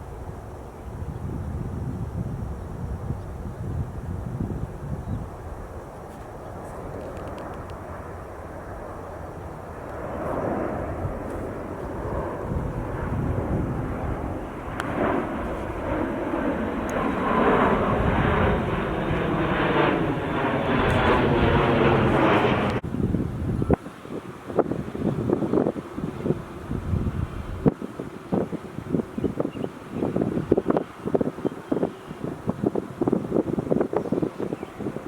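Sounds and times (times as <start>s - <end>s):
jet airliner engines passing: 0.0s - 35.0s.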